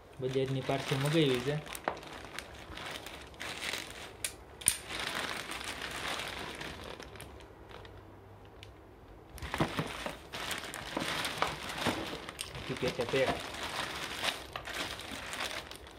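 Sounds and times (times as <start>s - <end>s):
packaging crinkling and rustling: 0.2s - 8.6s, 9.3s - 15.9s.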